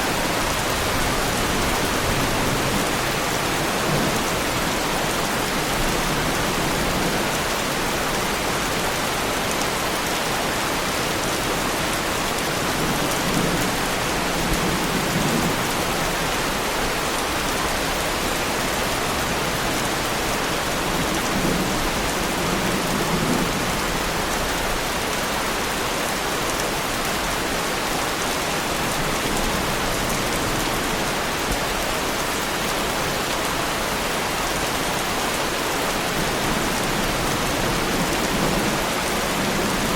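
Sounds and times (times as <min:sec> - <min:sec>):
heavy rain on a car: 0:00.1 - 0:39.9.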